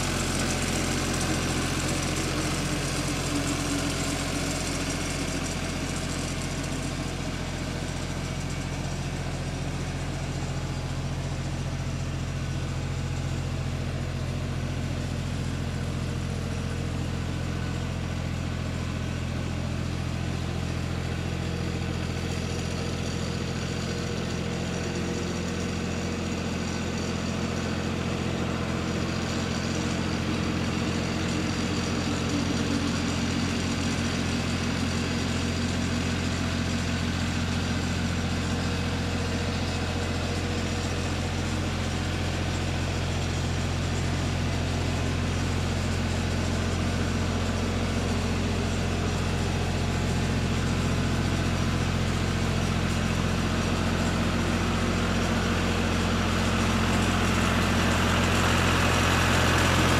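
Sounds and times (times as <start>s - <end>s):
tractor engine droning: 0.0s - 59.9s.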